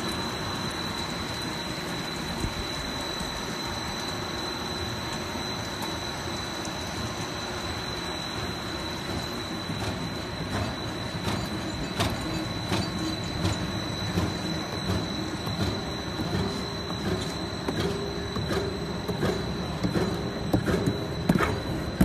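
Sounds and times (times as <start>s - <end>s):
machinery clattering with high whine: 0.0s - 22.0s.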